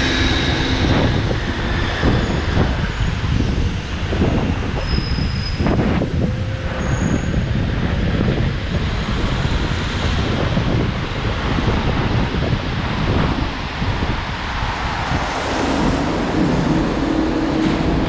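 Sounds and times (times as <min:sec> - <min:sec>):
scooter road noise: 0:00.0 - 0:18.0
wind rumbling on microphone: 0:00.0 - 0:18.0.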